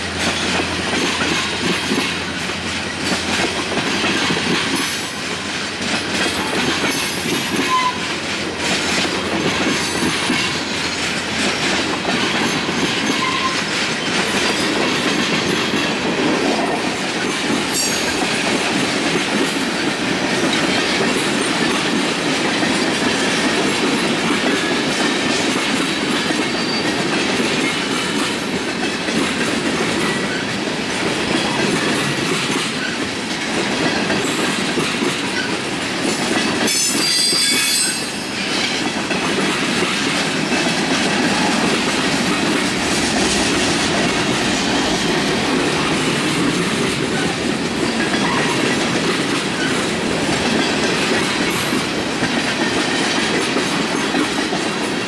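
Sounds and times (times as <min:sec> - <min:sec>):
freight train rolling past: 0:00.0 - 0:55.0
wheels clicking over rail joints: 0:00.2 - 0:55.0.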